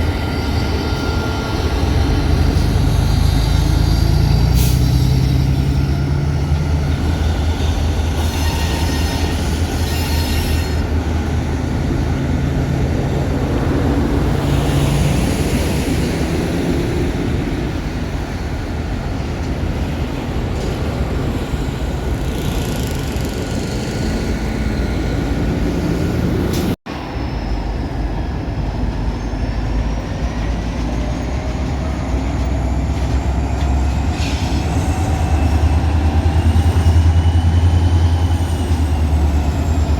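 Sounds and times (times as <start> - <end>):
diesel locomotive drone: 0.0 - 39.9
train cars rolling: 0.0 - 39.9.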